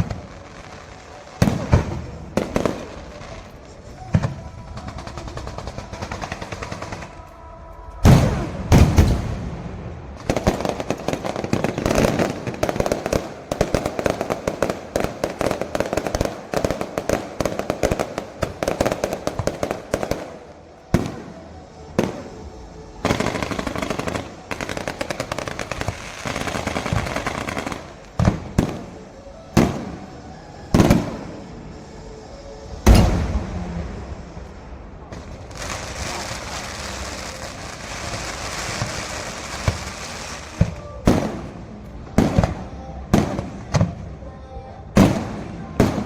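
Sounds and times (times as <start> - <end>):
fireworks bangs: 0.0 - 44.2, 44.9 - 46.0
fireworks crackling: 0.0 - 46.0.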